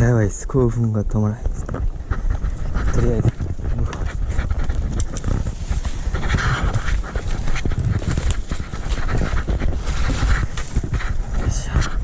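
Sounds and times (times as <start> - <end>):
low rumble: 0.0 - 12.0
rustling: 1.4 - 12.0.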